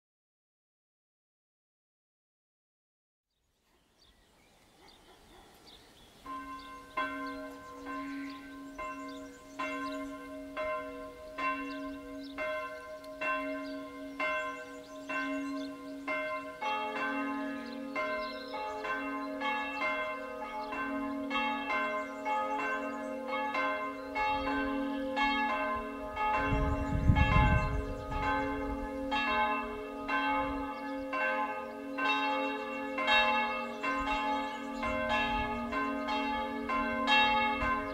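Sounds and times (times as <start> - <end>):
church bells ringing: 6.2 - 37.9.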